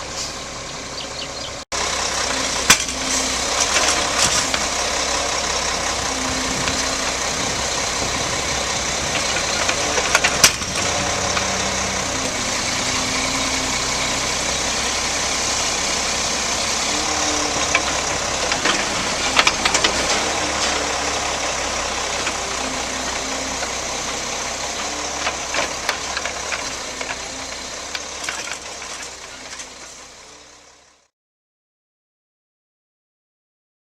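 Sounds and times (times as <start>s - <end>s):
diesel truck engine idling: 0.0s - 31.1s.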